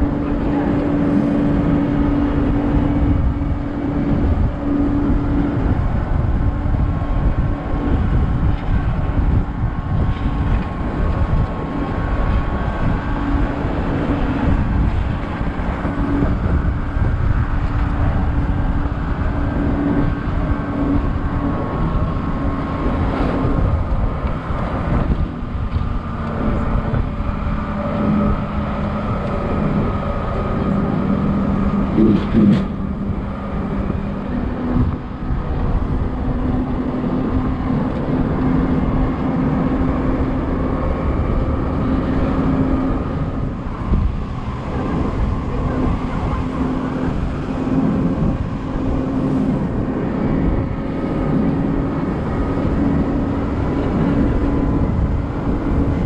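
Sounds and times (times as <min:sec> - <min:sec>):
bus diesel engine running: 0:00.0 - 0:56.0
wind buffeting: 0:00.0 - 0:56.0.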